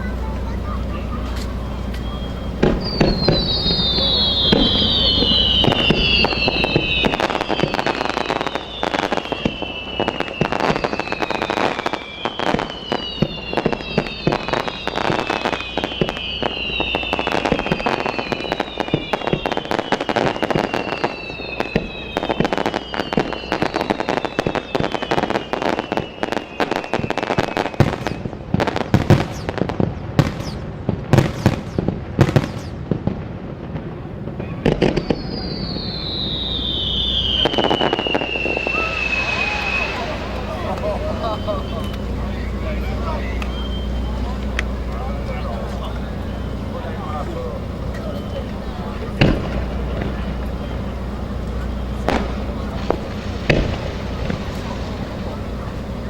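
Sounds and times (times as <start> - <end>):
falling firework whistles: 0.0 - 56.0
fireworks crackling and popping: 0.0 - 56.0
heavy firework bangs: 0.0 - 56.0.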